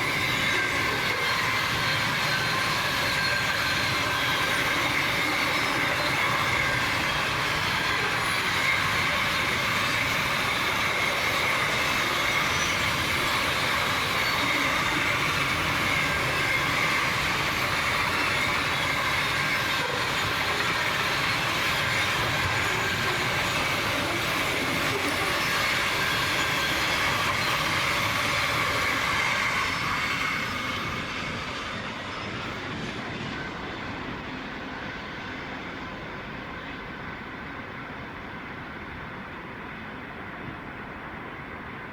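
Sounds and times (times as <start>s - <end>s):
high wheel squeal: 0.0s - 33.9s
freight train wheels rumbling: 0.0s - 41.9s.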